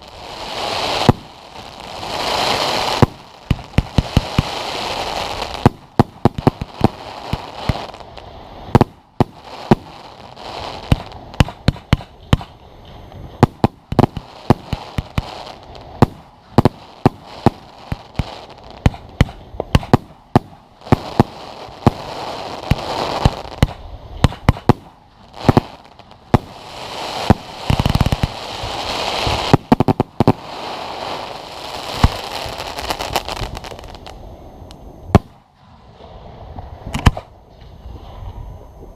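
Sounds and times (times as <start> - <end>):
fireworks crackling and hissing: 0.0 - 38.5
firework shells bursting: 2.3 - 34.2.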